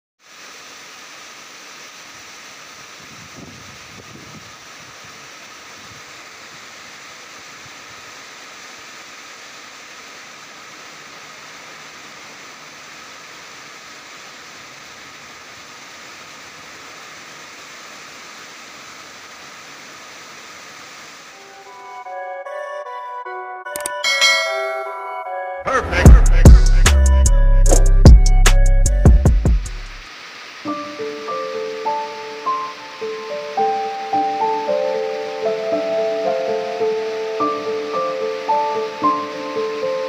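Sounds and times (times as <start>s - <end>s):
steady rain falling: 0.2s - 22.2s, 28.9s - 40.0s.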